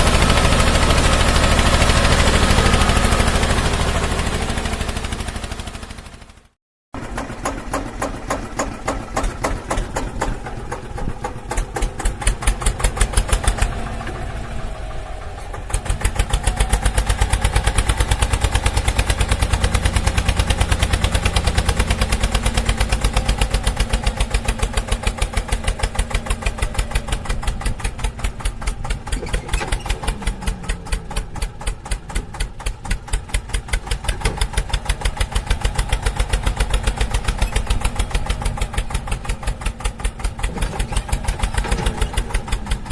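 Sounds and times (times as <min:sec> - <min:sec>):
engine chugging: 0:00.0 - 0:42.9.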